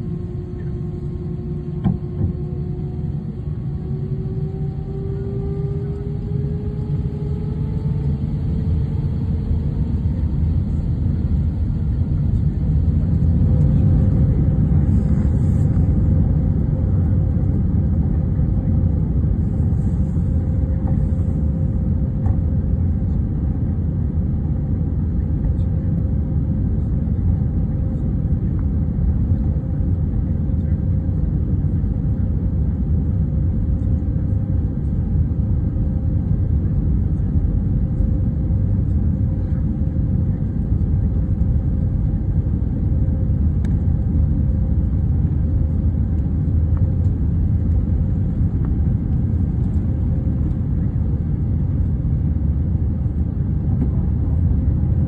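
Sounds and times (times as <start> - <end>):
faint steady hum: 0.0 - 55.0
jet airliner rumble: 0.0 - 55.0.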